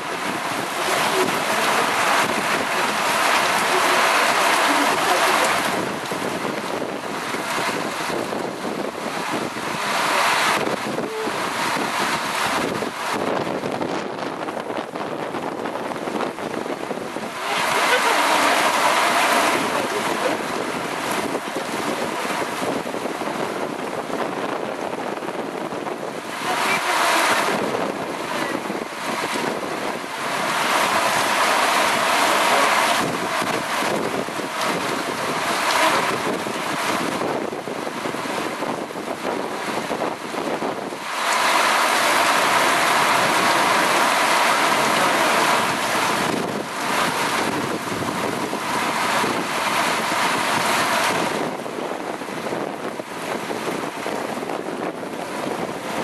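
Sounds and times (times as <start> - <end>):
heavy rain pouring: 0.0 - 56.0
wind gusting through trees: 0.0 - 56.0.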